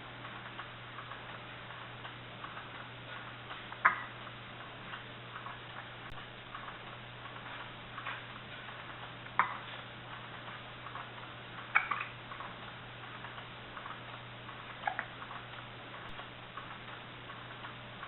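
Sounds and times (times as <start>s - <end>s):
baby swing ticking and humming: 0.0s - 18.0s.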